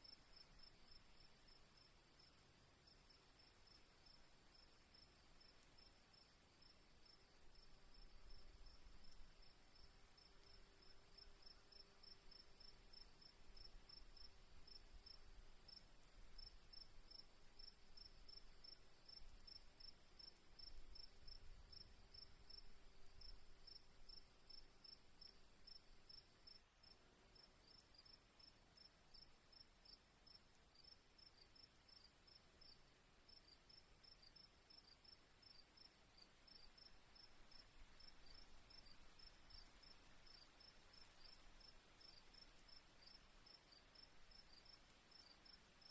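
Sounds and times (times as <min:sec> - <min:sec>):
cricket chirping rhythmically: 0:00.0 - 0:45.9.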